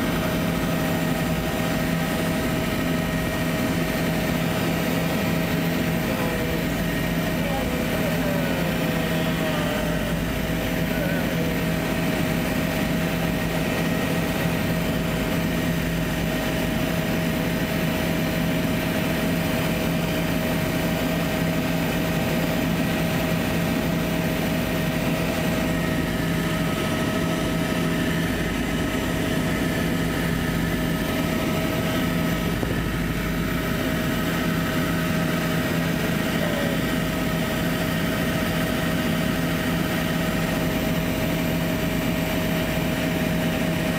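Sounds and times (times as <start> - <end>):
helicopter engine and rotor drone: 0.0 - 43.9.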